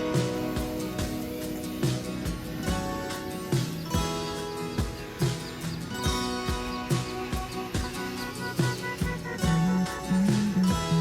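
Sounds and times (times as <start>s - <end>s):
held instrument notes: 0.0s - 11.0s
steady beat: 0.0s - 11.0s.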